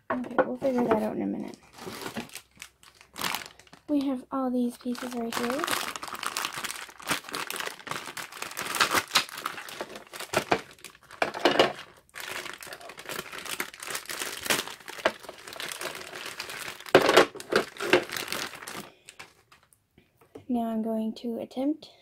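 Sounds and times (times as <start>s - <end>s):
plastic bags crinkling: 0.4s - 19.7s.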